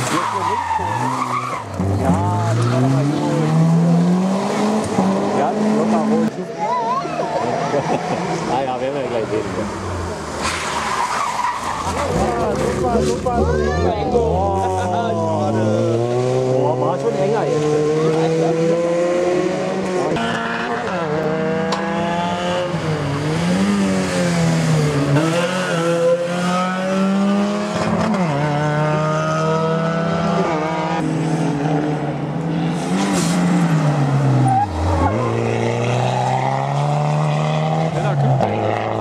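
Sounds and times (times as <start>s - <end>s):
car engine revving at full throttle: 0.0s - 10.8s, 11.6s - 39.0s.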